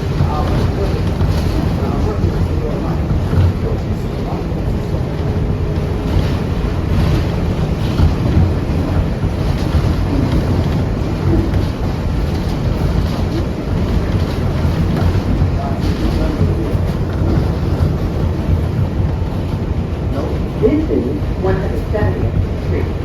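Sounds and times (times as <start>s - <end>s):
subway train wheels rumbling on rails: 0.0s - 23.0s.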